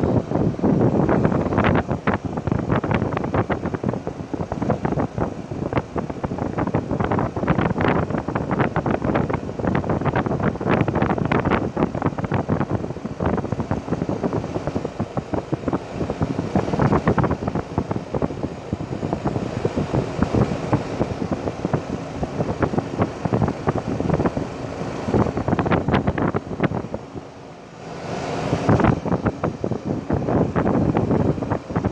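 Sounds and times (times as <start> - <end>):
heat pump fan and compressor running: 0.0 - 31.9.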